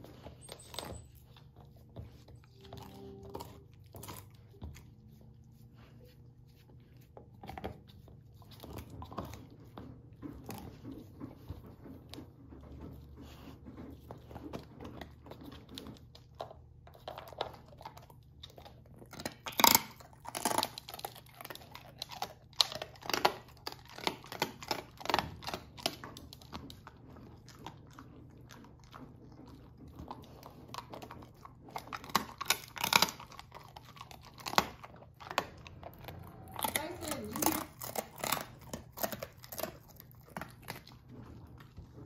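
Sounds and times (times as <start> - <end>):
puppy crunching on bone: 0.0 - 42.0.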